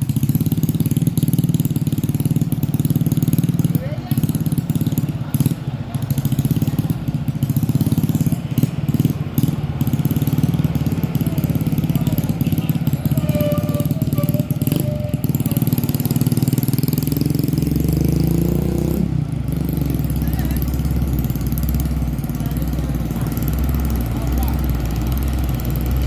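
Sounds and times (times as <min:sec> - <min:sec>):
diesel truck engine rumbling: 0:00.0 - 0:26.0.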